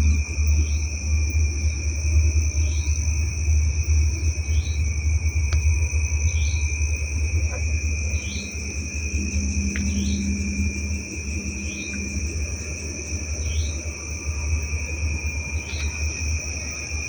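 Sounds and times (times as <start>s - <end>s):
insect trilling: 0.0s - 17.0s
low rumble: 0.0s - 17.0s.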